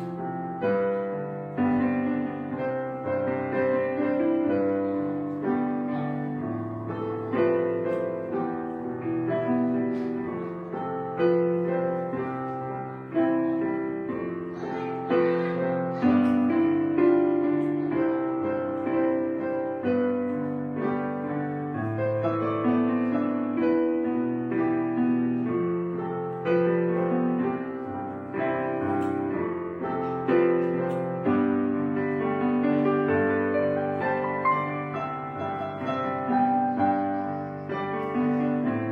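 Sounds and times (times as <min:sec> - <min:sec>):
slow piano music: 0:00.0 - 0:38.9.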